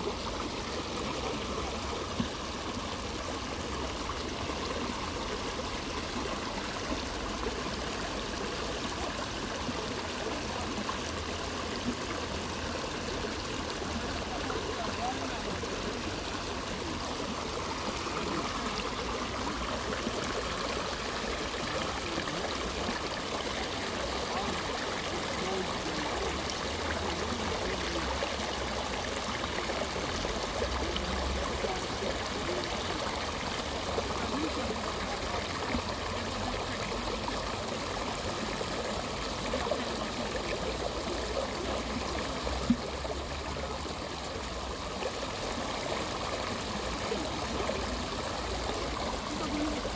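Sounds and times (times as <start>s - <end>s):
trickling water: 0.0s - 49.9s.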